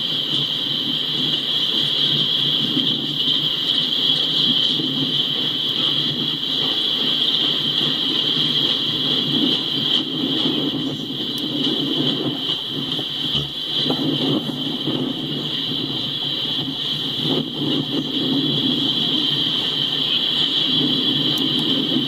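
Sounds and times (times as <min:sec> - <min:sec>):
constant high hiss: 0:00.0 - 0:22.0
train wheels rumbling on rail: 0:00.0 - 0:22.0.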